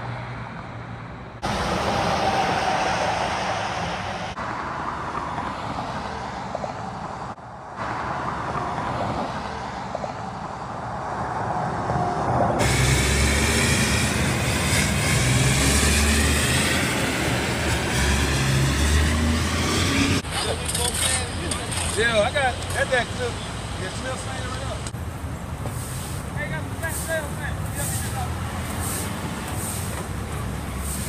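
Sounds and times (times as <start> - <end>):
highway traffic rushing past: 0.0 - 31.0.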